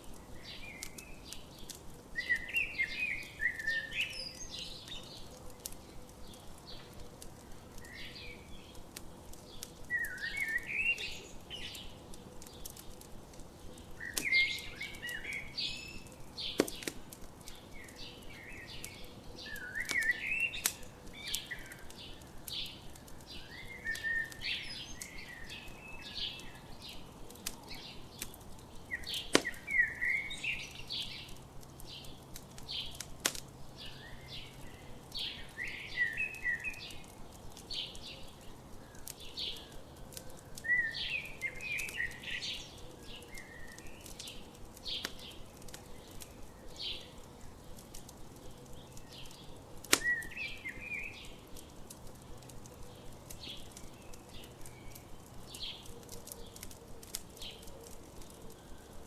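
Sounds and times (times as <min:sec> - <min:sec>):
campfire crackling and popping: 0:00.0 - 0:59.0
songbirds chirping: 0:00.0 - 0:59.0.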